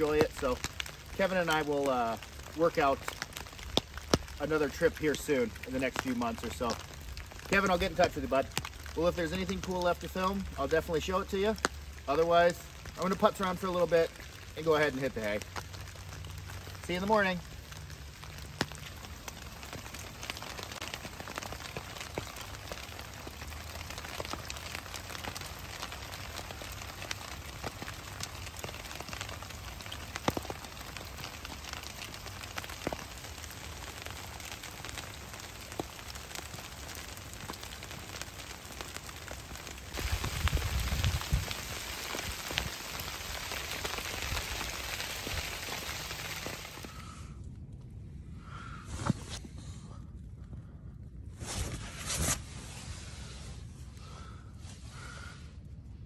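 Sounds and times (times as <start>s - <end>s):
rain on leaves and a tarp: 0.0s - 47.3s.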